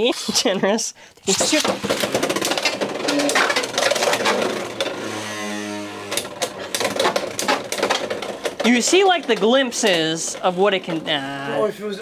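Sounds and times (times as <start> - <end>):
spinning tops clattering: 1.2 - 11.2.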